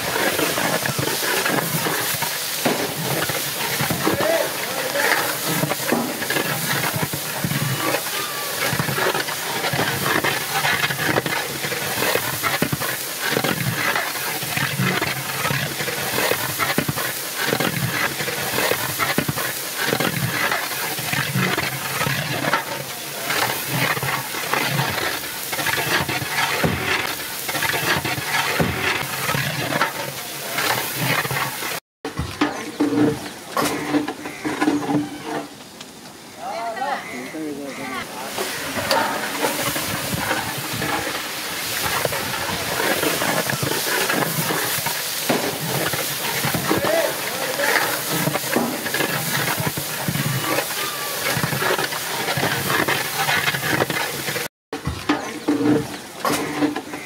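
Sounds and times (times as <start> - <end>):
meat sizzling in hot oil: 0.0 - 31.8, 38.3 - 54.5
metal ladle scraping and knocking pot: 0.0 - 35.6, 38.3 - 54.4.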